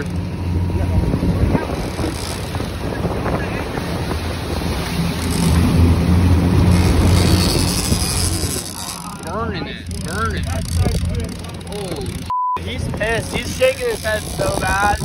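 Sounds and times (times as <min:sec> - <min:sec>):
boat engine droning: 0:00.0 - 0:15.0
churning wake rushing: 0:00.0 - 0:15.0
wind buffeting microphone: 0:00.0 - 0:15.0.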